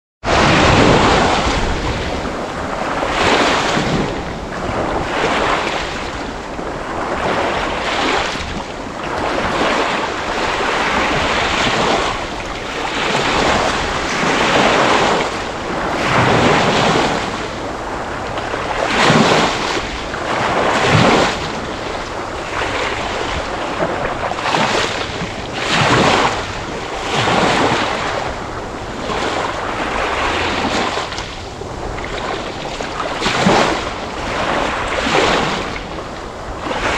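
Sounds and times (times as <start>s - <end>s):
sea waves washing in: 0.2s - 36.9s.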